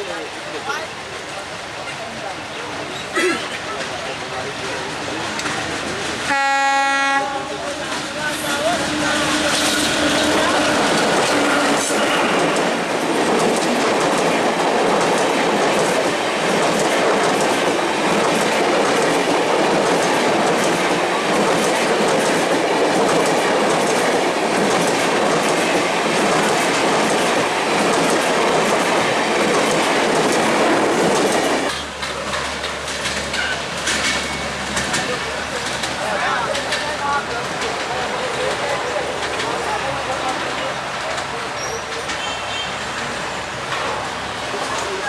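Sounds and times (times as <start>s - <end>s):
passenger train rumbling past: 0.0s - 45.0s.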